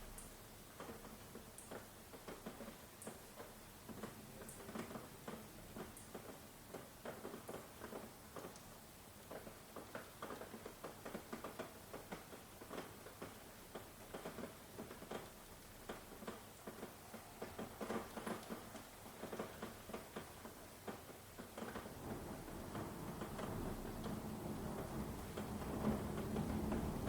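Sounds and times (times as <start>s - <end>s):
rain pattering: 0.1s - 27.0s.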